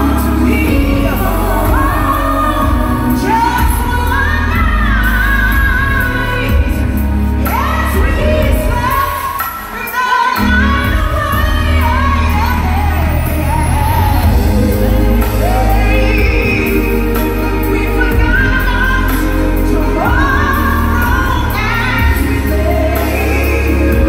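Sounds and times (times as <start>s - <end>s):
heavy bass: 0.0s - 9.0s, 10.4s - 24.0s
woman singing soul: 0.0s - 24.0s.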